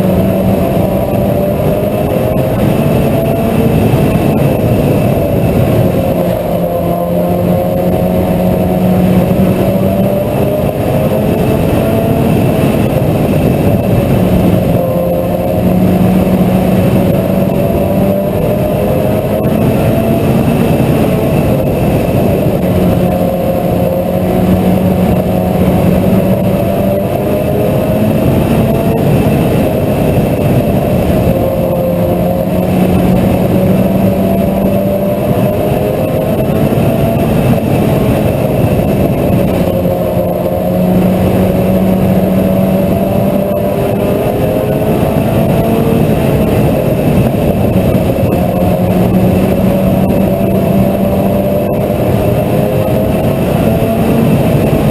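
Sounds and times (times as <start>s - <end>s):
race car engine running hard: 0.0s - 54.9s.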